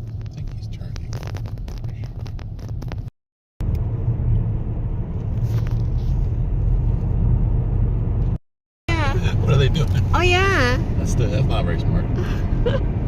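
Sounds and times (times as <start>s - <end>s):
car road rumble from inside: 0.0s - 13.0s.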